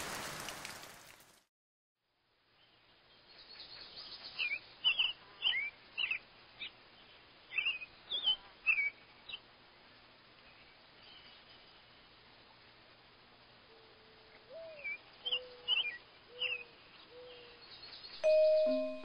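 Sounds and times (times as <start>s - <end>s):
faint background hiss: 2.2s - 19.0s.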